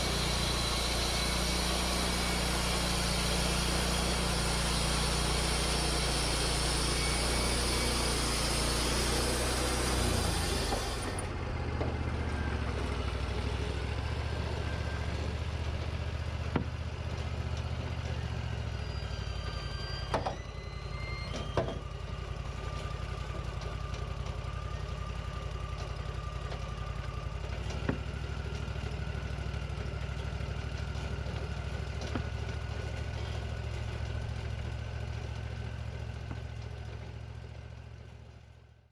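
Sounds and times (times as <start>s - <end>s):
sawmill engine running and idling: 0.0s - 38.9s.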